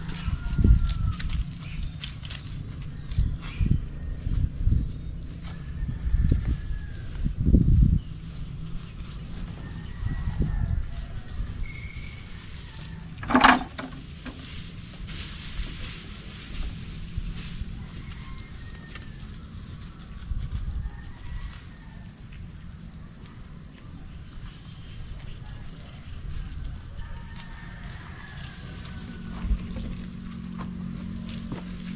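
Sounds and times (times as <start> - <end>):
high insect buzz: 0.0 - 31.9.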